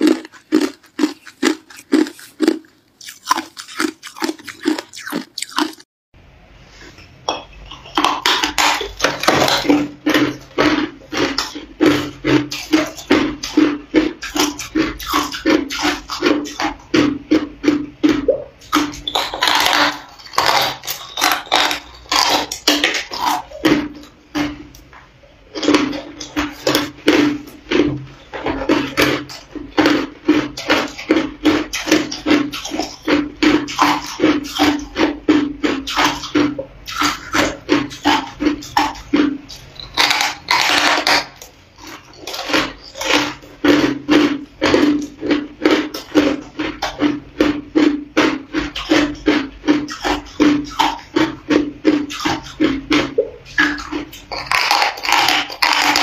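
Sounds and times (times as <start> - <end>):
ice crunching between teeth: 0.0 - 5.9, 7.9 - 24.9, 25.5 - 56.0.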